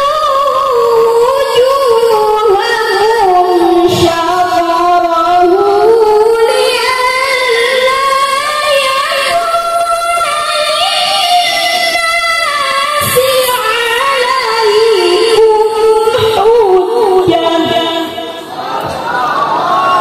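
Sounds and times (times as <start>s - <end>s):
woman singing: 0.0s - 18.5s.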